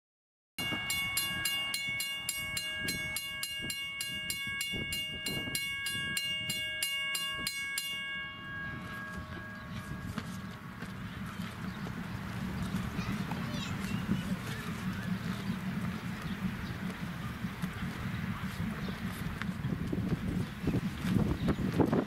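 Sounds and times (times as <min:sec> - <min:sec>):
locomotive bell ringing: 0:00.6 - 0:20.4
steam exhaust chuffing: 0:00.6 - 0:22.0.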